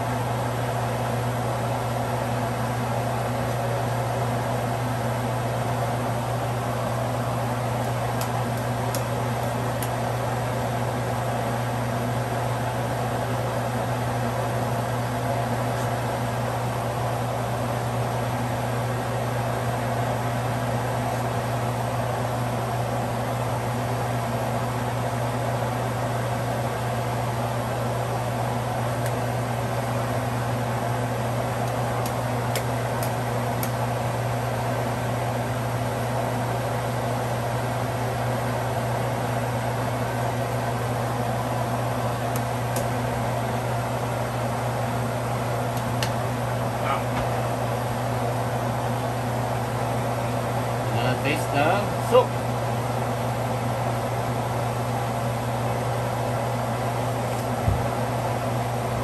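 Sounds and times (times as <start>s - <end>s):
mechanical whirring hum: 0.0s - 59.0s.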